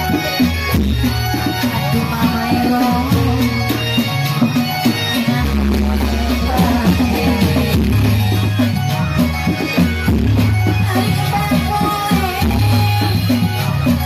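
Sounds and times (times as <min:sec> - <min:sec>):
busy drumming: 0:00.0 - 0:14.0.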